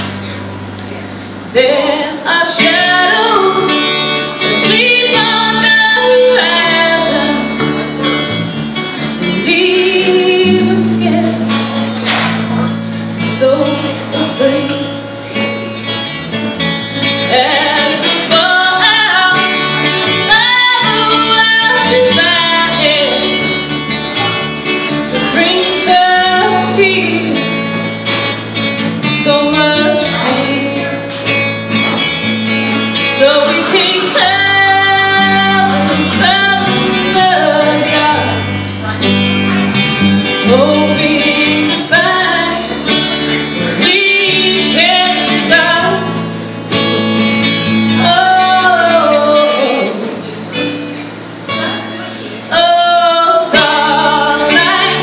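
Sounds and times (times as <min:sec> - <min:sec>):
acoustic guitar: 0:00.0 - 0:55.0
bass guitar: 0:00.0 - 0:55.0
woman singing a rock ballad: 0:01.5 - 0:50.9, 0:51.6 - 0:55.0.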